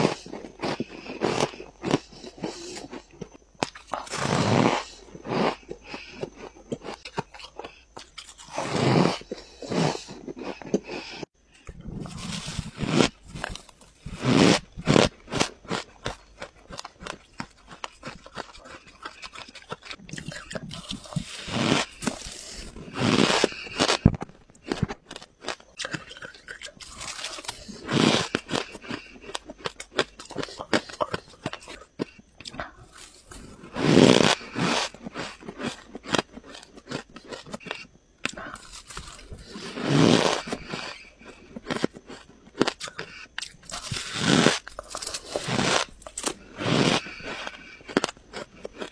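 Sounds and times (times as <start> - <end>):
fine crackling of chewing: 0.0 - 48.9
squeaky crunch of frost: 0.0 - 48.9.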